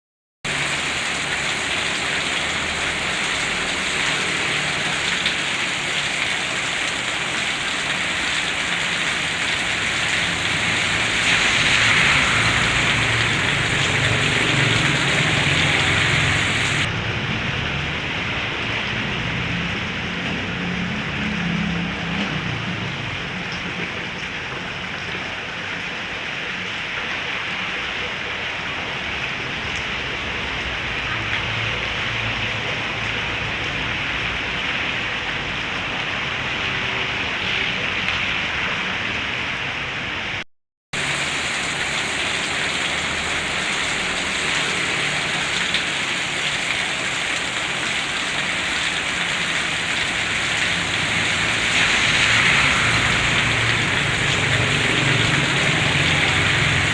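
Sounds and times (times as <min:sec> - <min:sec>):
heavy rain falling: 0:00.5 - 0:40.4, 0:41.0 - 0:56.9.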